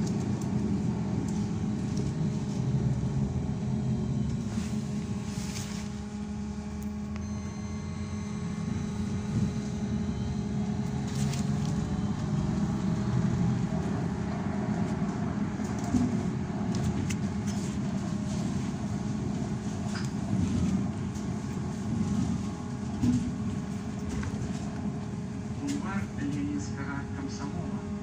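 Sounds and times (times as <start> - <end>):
bus rumbling on road: 0.0 - 7.0, 8.6 - 28.0
faint high electric whine: 0.0 - 28.0.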